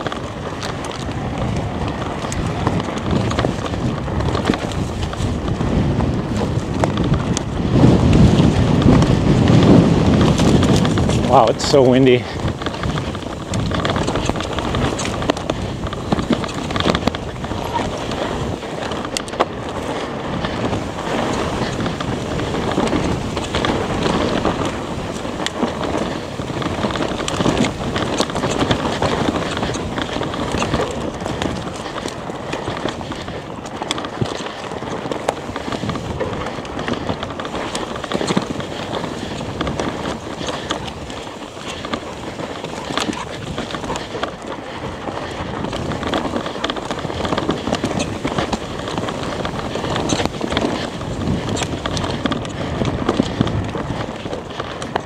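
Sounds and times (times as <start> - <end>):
bike tyres crunching on dirt: 0.0 - 55.0
stones and bike rattling: 0.0 - 55.0
wind buffeting microphone: 0.0 - 55.0.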